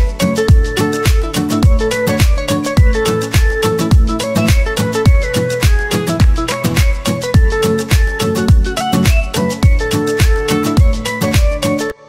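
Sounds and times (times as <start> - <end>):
deep kick drum: 0.0 - 11.6
background music with beat: 0.0 - 12.0.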